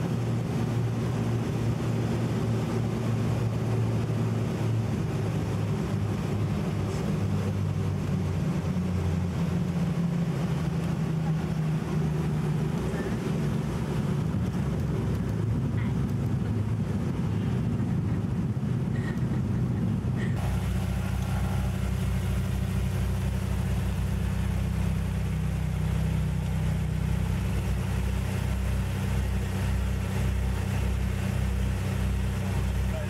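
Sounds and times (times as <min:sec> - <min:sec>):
airplane engine roar: 0:00.0 - 0:33.0
engine hum with slow throb: 0:00.0 - 0:33.0.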